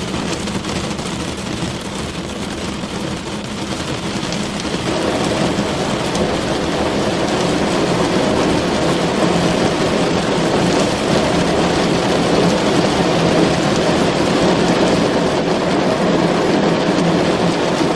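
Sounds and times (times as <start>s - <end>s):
low hum: 0.0s - 16.2s
rain on car roof: 0.0s - 17.9s.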